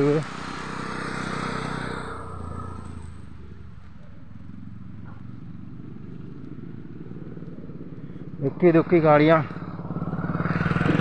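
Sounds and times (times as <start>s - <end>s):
motorbike engine humming: 0.0s - 11.0s
road noise: 0.0s - 11.0s.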